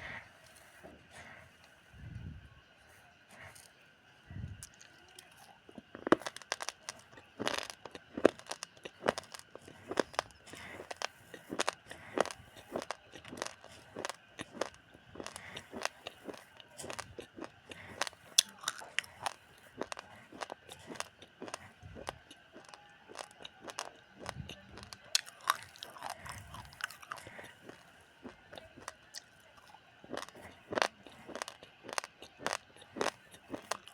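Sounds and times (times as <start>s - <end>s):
raw rice crunched between teeth: 4.6s - 33.9s.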